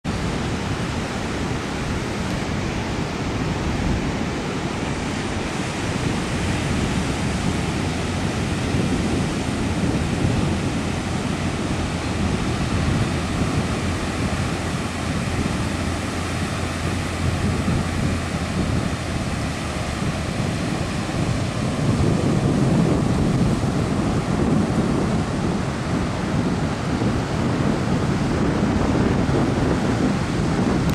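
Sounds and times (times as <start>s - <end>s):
surf breaking on cobble beach: 0.0s - 30.9s
wind buffeting microphone: 0.0s - 30.9s.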